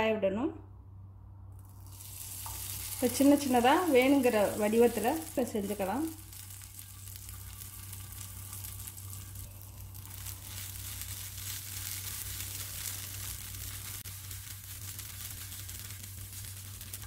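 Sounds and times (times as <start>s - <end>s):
batter sizzling on a griddle: 1.6s - 17.0s.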